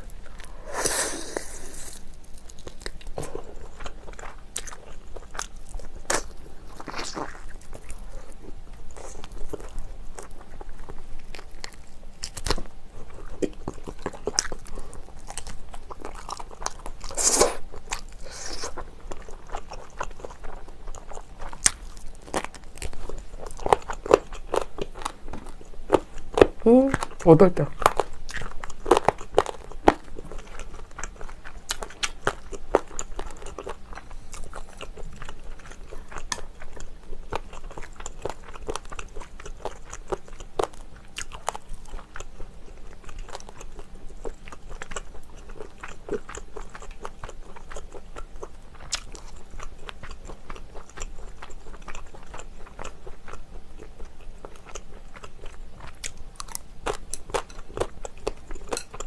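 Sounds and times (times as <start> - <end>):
wet chewing and mouth clicks: 1.9 - 59.0.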